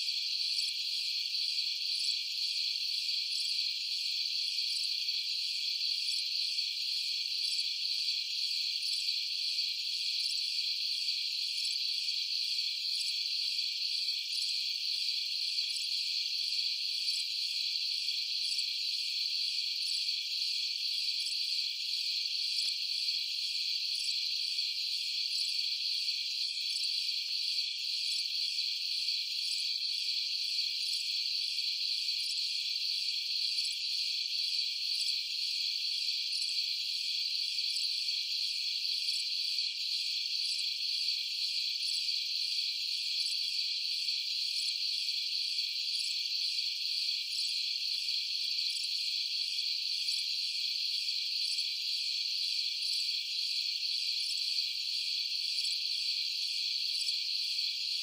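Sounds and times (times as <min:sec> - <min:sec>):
crickets and night insects chirping: 0:00.0 - 0:58.0.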